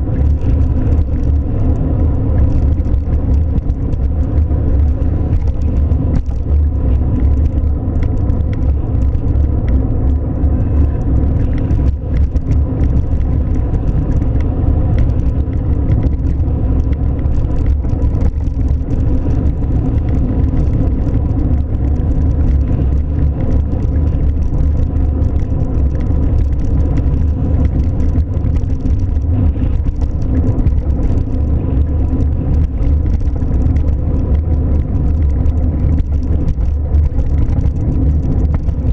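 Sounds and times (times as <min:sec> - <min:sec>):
car engine rumble: 0:00.0 - 0:38.9
faint steady hum: 0:00.0 - 0:38.9.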